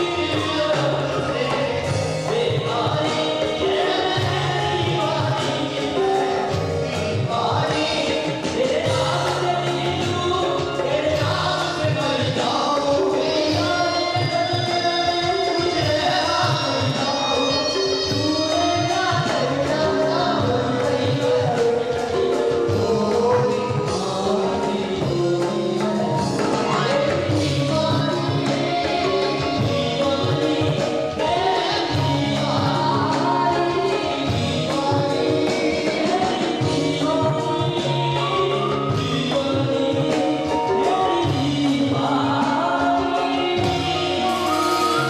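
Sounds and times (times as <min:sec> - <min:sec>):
person singing: 0:00.0 - 0:45.0
rock band playing: 0:00.0 - 0:45.0.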